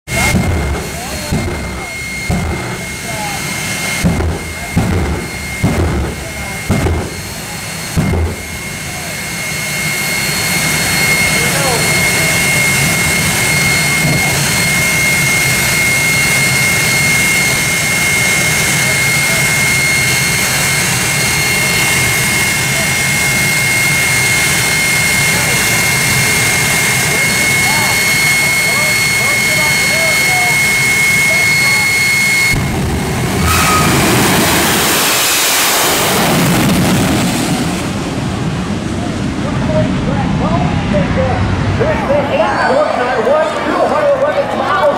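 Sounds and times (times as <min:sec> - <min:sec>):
jet engine roaring: 0:00.0 - 0:44.9.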